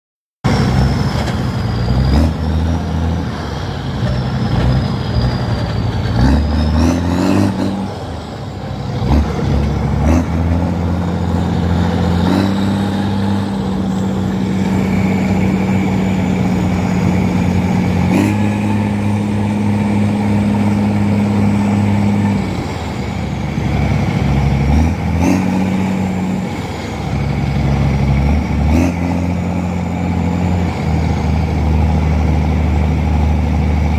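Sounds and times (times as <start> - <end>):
diesel truck engine revving: 0.4 - 33.9.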